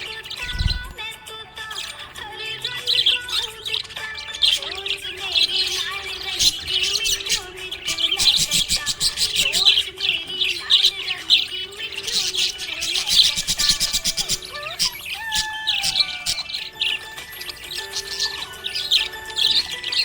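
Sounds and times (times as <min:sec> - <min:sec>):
budgerigar chirping and warbling: 0:00.0 - 0:20.0.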